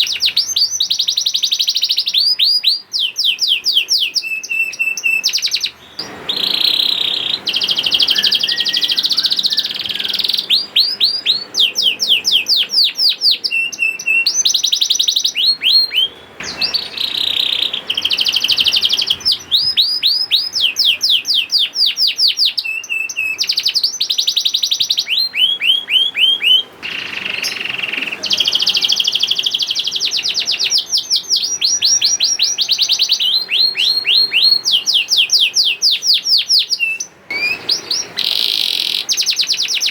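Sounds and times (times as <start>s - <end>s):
canary singing in trills: 0.0s - 39.9s.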